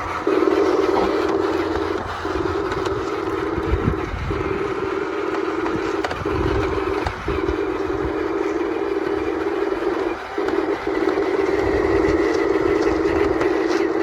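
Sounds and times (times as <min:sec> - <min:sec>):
toy electric motors whining: 0:00.0 - 0:14.0.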